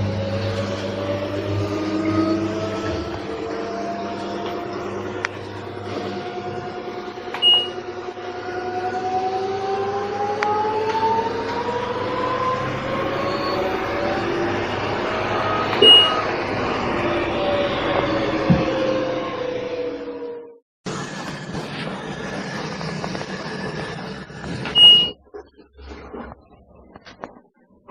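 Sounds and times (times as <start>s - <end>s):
washing machine spin whine: 0.0s - 27.2s.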